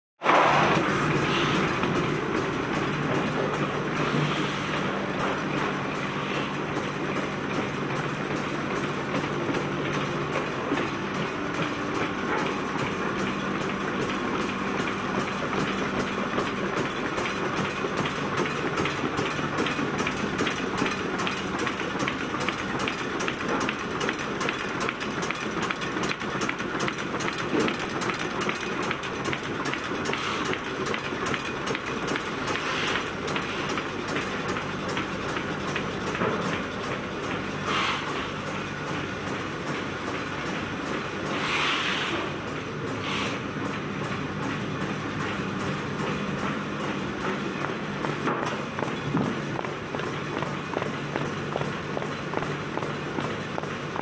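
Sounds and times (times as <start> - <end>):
machine clattering: 0.2 - 41.4, 42.2 - 54.0.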